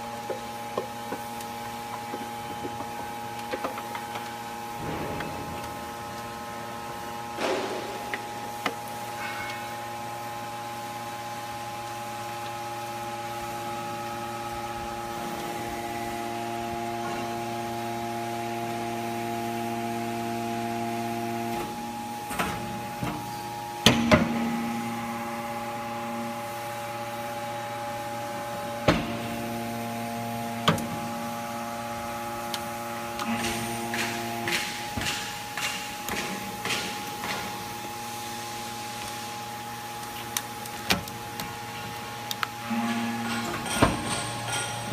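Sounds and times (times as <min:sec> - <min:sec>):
hydraulic power unit humming: 0:00.0 - 0:44.9.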